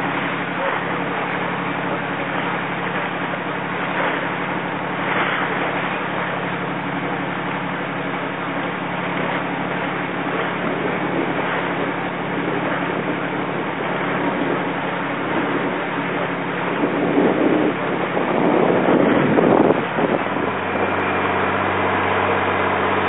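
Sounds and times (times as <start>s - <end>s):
boat engine humming: 0.0s - 23.0s
wind and water hiss: 0.0s - 23.0s.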